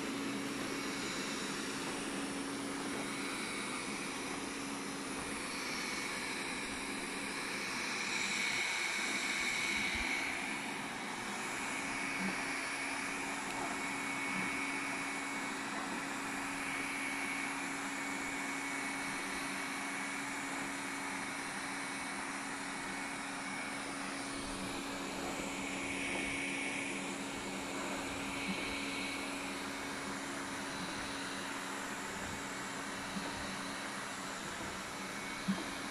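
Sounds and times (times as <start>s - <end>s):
robot vacuum motor humming: 0.0s - 35.9s.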